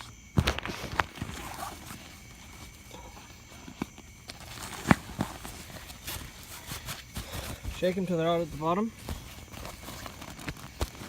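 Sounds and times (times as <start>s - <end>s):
soft plastic rustling: 0.0s - 11.0s.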